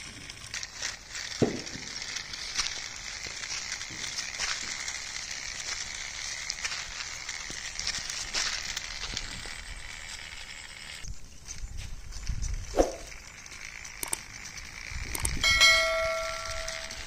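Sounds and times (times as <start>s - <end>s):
plastic wheels crunching over sand: 0.0s - 17.0s
small clicks: 0.0s - 17.0s.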